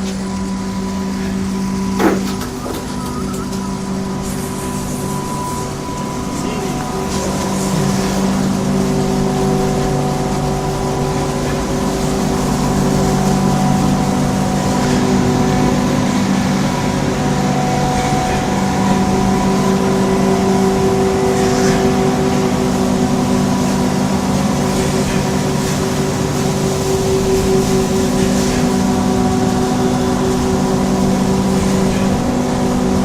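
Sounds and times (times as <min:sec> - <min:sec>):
loud industrial machine hum: 0:00.0 - 0:33.0.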